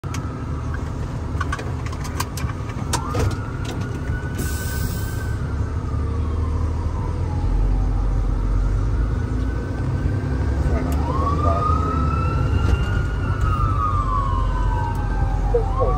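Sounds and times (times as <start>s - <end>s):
emergency vehicle siren wailing: 0.0s - 1.3s, 2.2s - 15.9s.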